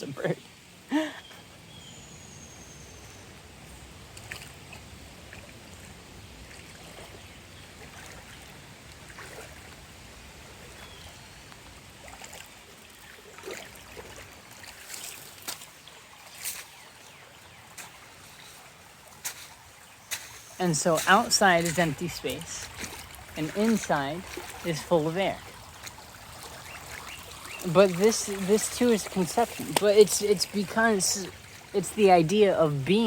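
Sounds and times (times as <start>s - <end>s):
water trickling: 4.1s - 33.0s.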